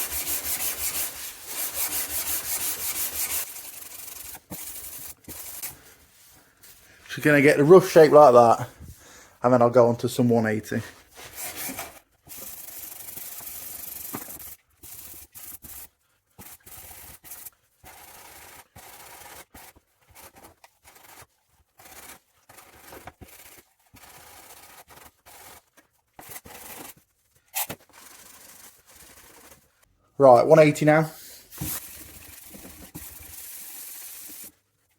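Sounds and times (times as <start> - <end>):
sandpaper rubbing on filler: 0.0 - 8.5, 11.1 - 29.8, 31.2 - 34.6.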